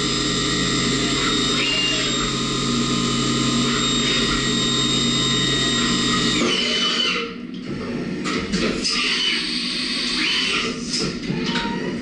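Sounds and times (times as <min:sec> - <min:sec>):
metal cutting noise: 0:00.0 - 0:07.5, 0:08.2 - 0:11.2
milling machine spindle whine: 0:00.0 - 0:11.2.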